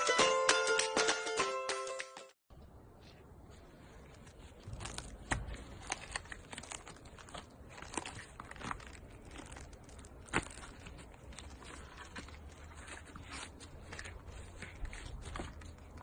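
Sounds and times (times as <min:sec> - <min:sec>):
silicone mold crackling: 0:02.5 - 0:16.0.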